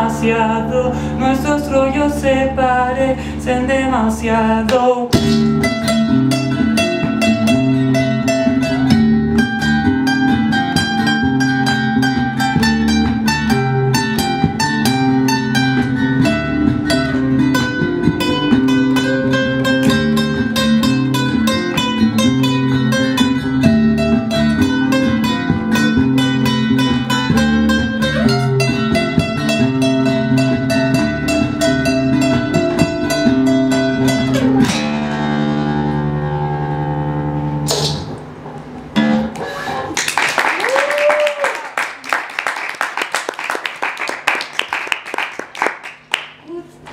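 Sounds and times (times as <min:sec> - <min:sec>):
acoustic guitar strumming: 0:00.0 - 0:40.0.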